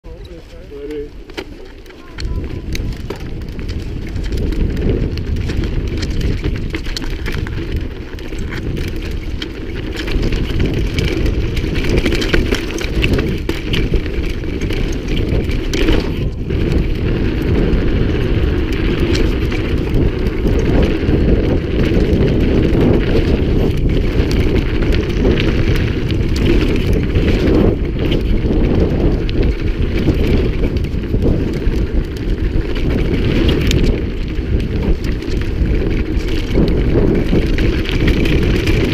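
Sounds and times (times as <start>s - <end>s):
wind rushing over microphone: 0.0s - 38.9s
bike rattling over bumps: 0.1s - 38.9s
tyres rolling over loose dirt: 0.1s - 38.9s.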